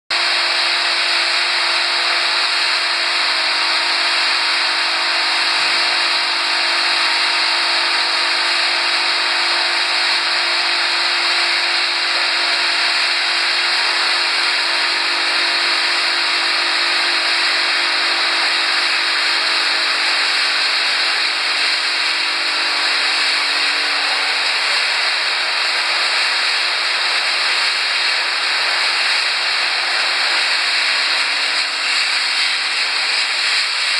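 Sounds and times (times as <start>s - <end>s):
machinery motors and fans hissing: 0.1s - 33.9s.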